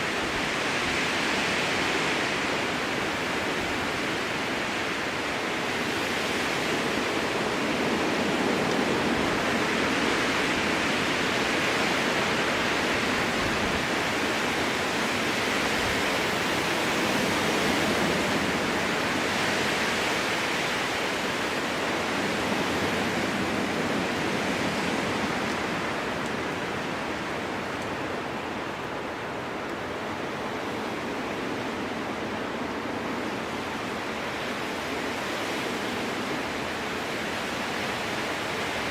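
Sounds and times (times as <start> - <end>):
strong wind through trees: 0.0 - 38.9.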